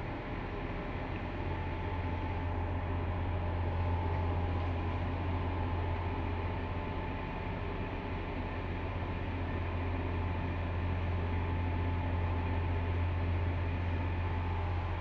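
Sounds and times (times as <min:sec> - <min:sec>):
faint steady whine: 0:00.0 - 0:15.0
train cabin low hum: 0:00.0 - 0:15.0.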